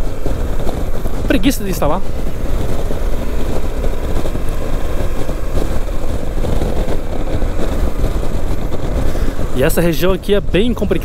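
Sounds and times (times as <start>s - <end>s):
motorcycle engine cruising: 0.0s - 11.0s
wind rush: 0.0s - 11.0s.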